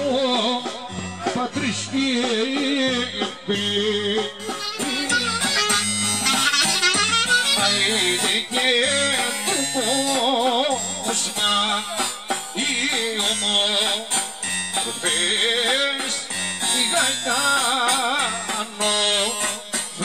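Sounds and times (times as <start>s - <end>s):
electronic keyboard with bass: 0.0s - 20.0s
man singing through a pa: 0.0s - 20.0s.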